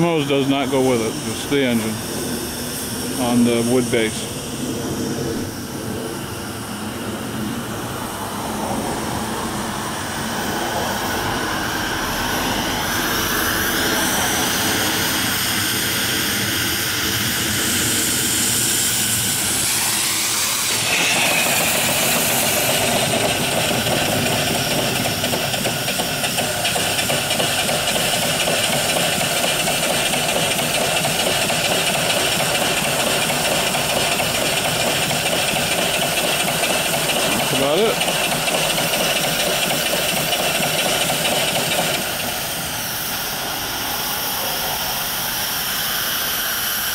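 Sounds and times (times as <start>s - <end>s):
hiss of steam: 0.0s - 46.9s
steam engine running: 0.0s - 46.9s.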